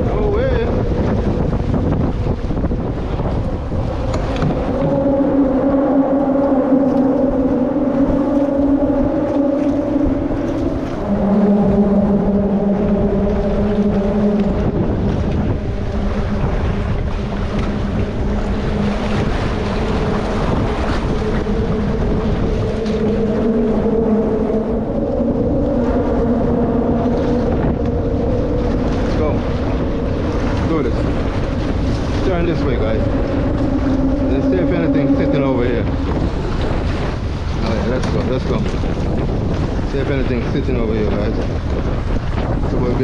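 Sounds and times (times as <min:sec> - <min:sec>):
water rushing along hull: 0:00.0 - 0:43.0
wind buffeting microphone: 0:00.0 - 0:43.0.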